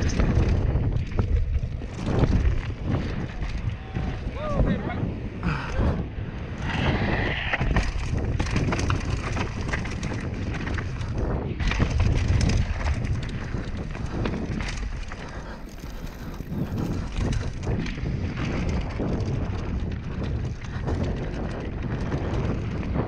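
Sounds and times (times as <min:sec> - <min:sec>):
bike rattling clicks: 0:00.0 - 0:04.4, 0:05.1 - 0:23.0
tyres rolling over gravel: 0:00.0 - 0:04.7, 0:06.4 - 0:23.0
wind buffeting microphone: 0:00.0 - 0:23.0.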